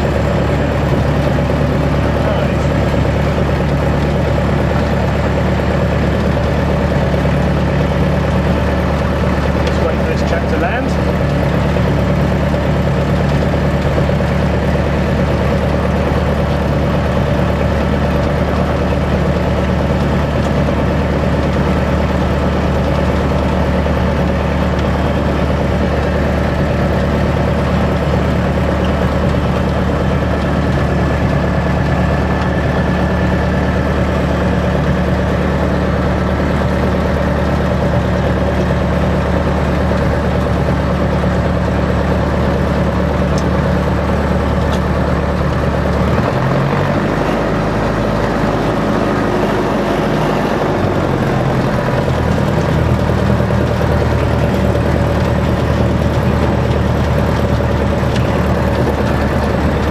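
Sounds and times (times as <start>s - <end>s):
aircraft engine running steadily: 0.0s - 59.9s.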